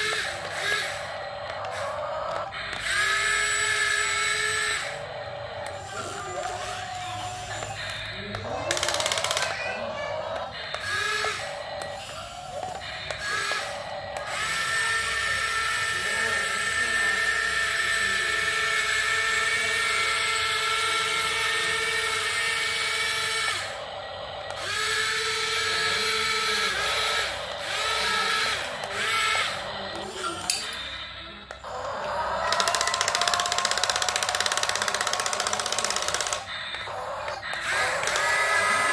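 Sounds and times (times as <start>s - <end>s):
toy electric motors whining: 0.0s - 38.9s.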